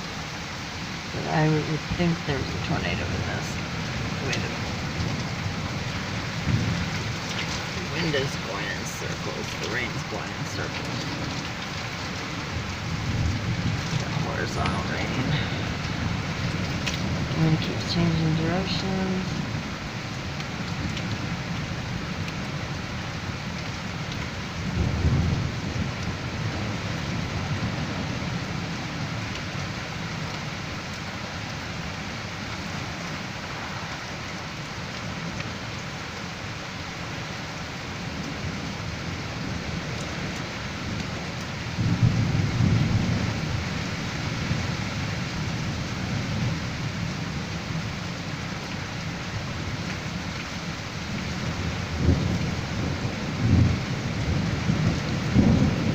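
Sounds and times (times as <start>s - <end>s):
low thunder rumbles: 0.0s - 36.2s, 37.0s - 55.9s
heavy wind-driven rain: 0.0s - 55.9s.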